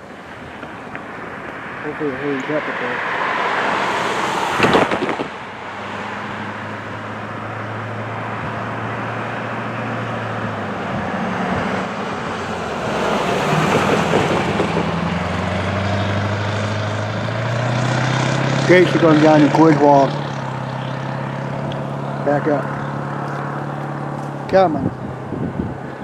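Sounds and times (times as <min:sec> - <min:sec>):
road traffic noise: 0:00.0 - 0:26.0
vehicle passing: 0:00.3 - 0:25.9.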